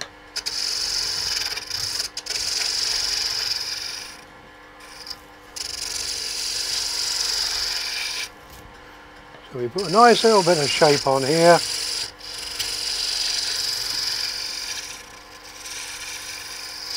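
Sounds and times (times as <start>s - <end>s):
wood lathe hum: 0.0s - 8.3s, 9.4s - 16.9s
gouge hissing on spinning wood: 0.4s - 4.2s, 4.8s - 8.3s, 9.7s - 16.9s.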